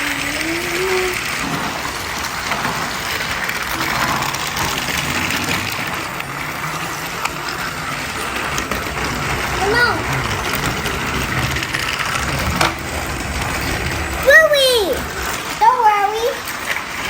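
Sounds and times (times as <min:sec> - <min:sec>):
toy train motors whirring and rattling: 0:00.0 - 0:17.0.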